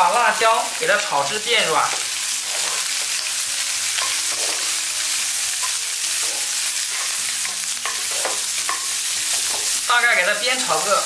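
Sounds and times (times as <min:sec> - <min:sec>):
peppers sizzling in hot oil: 0:00.0 - 0:11.0.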